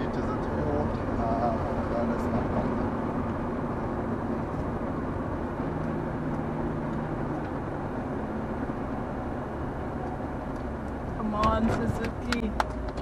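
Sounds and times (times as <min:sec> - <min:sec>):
car engine hum: 0:00.0 - 0:13.0
tyre and road noise: 0:00.0 - 0:13.0.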